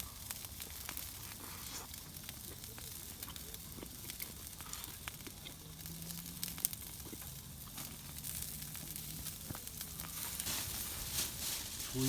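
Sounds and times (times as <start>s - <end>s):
fire clicks and pops: 0.0s - 11.9s
campfire crackling: 0.0s - 12.0s.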